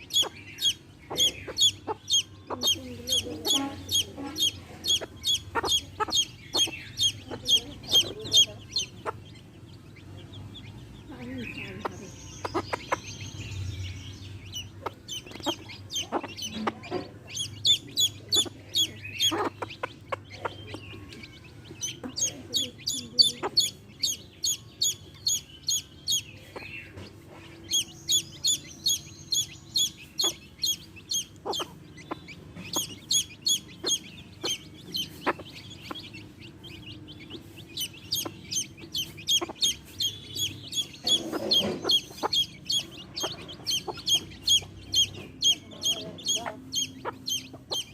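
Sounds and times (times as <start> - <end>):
baby chicks peeping: 0.0 - 47.9
hen clucking: 0.0 - 47.9.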